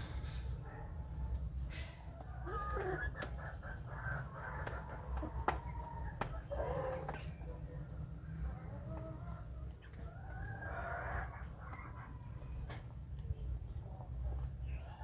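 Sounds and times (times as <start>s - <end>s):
young chickens clucking: 0.0s - 15.0s.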